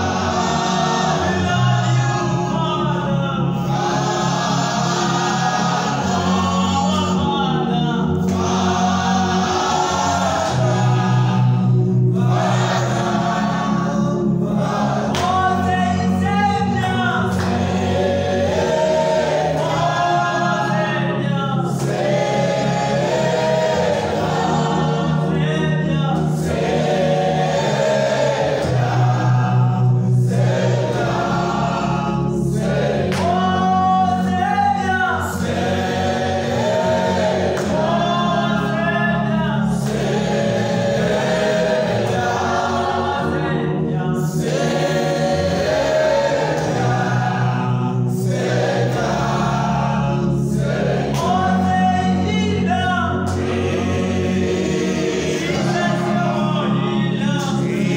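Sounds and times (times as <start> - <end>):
choir singing: 0.0 - 57.9
held low accompanying notes: 0.0 - 57.9.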